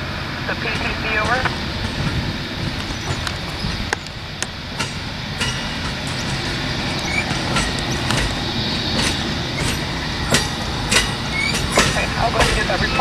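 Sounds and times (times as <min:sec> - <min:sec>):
train cars rumbling on track: 0:00.0 - 0:13.0
sharp clicks of wheels: 0:00.6 - 0:13.0.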